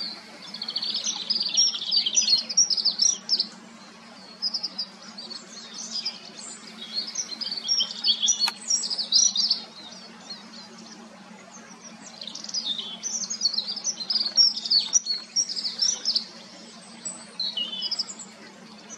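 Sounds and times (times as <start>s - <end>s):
bird warbling song: 0.0s - 18.9s.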